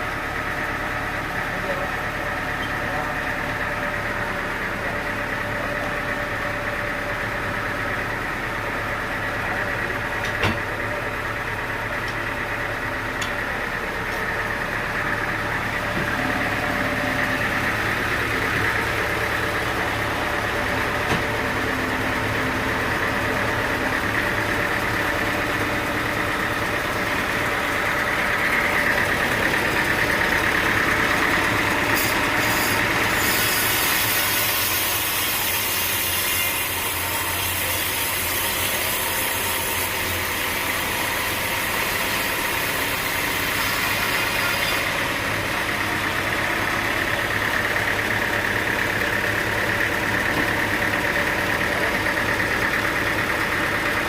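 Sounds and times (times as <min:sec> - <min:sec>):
sawmill engine idling: 0:00.0 - 0:54.0.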